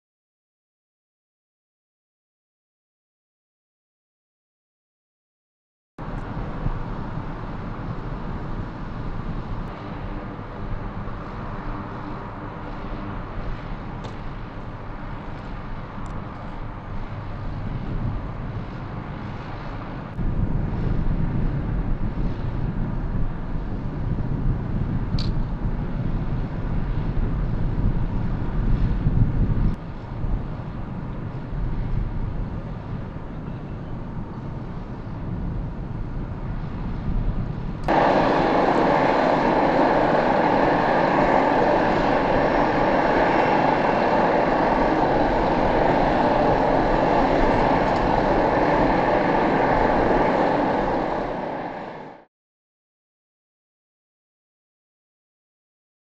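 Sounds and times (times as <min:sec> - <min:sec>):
aircraft engine rush with whine: 0:06.0 - 0:52.3
low machinery rumble: 0:06.0 - 0:52.3.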